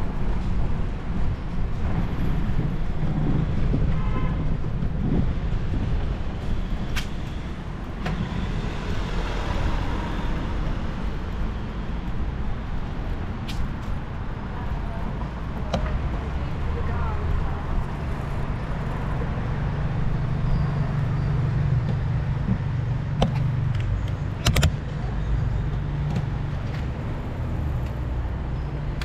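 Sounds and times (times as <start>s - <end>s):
motor traffic: 0.0s - 29.0s
wind and road noise: 0.0s - 29.0s.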